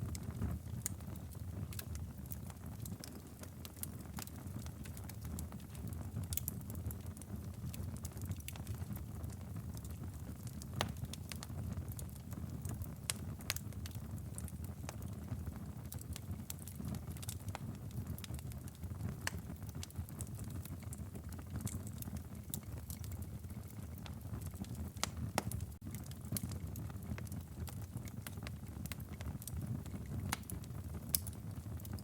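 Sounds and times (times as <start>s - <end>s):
burning logs crackling and popping: 0.0s - 32.0s
low rumble of flames: 0.0s - 32.0s.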